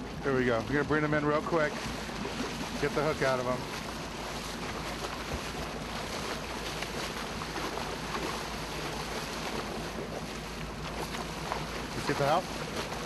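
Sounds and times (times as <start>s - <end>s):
boat engine hum: 0.0s - 13.0s
water splashing against hull: 0.0s - 13.0s.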